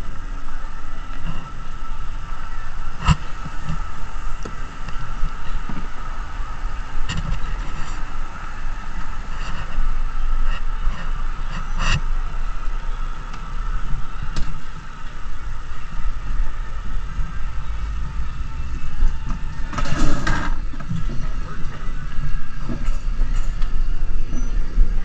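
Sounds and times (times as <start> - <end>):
coaster cart rolling on steel track: 0.0 - 25.0
wind rumble on microphone: 0.0 - 25.0.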